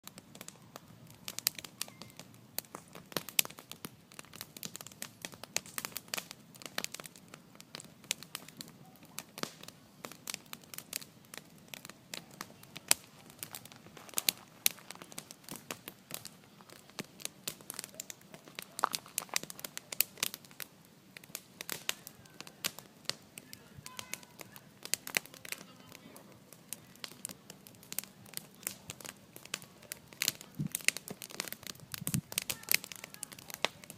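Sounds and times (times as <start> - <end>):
bonfire crackling and popping: 0.0 - 33.9.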